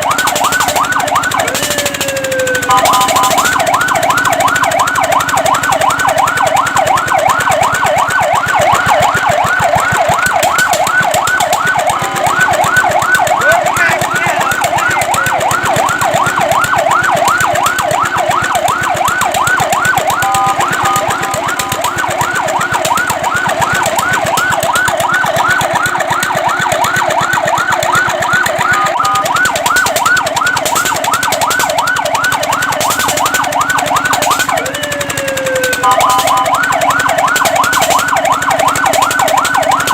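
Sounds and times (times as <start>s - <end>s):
fire truck siren yelp: 0.0s - 39.9s.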